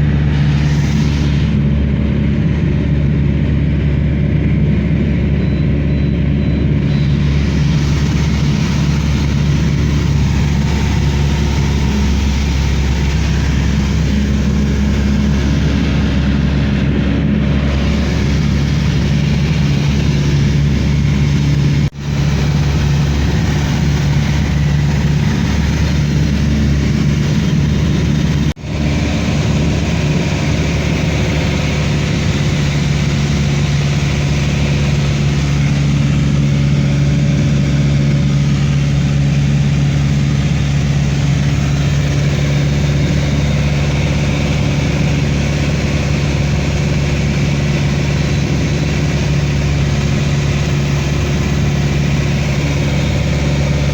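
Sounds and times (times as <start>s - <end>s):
airliner engine drone in cabin: 0.0s - 53.9s.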